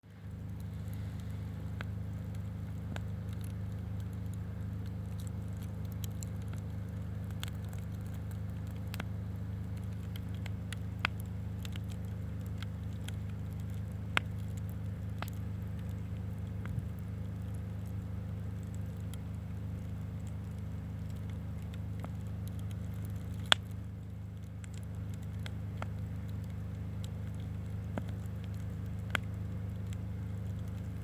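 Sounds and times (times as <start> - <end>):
campfire crackling and popping: 0.0 - 31.0
low fire rumble: 0.0 - 31.0.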